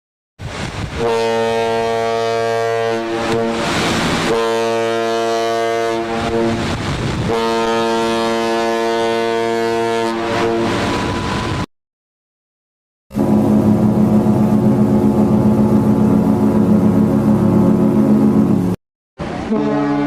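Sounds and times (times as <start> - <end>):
ship's horn blasts: 0.5 - 11.7, 13.1 - 20.0.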